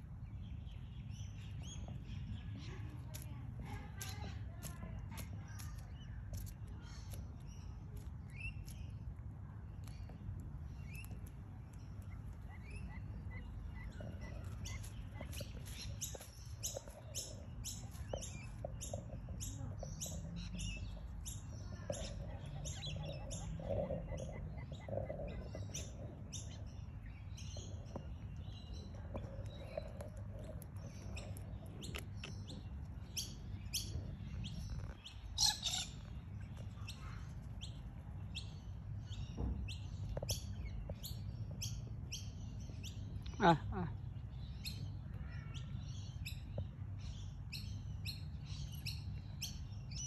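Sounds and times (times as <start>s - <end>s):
birds chirping: 0.0s - 50.0s
low steady rumble: 0.0s - 50.0s.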